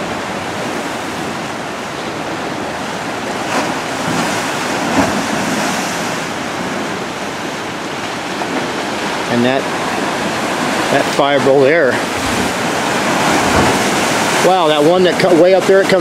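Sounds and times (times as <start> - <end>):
waves breaking on rocks: 0.0 - 16.0
wind: 0.0 - 16.0.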